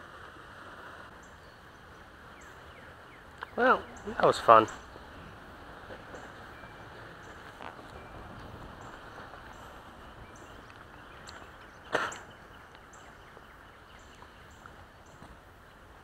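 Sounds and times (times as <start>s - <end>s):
low background rush: 0.0s - 16.0s.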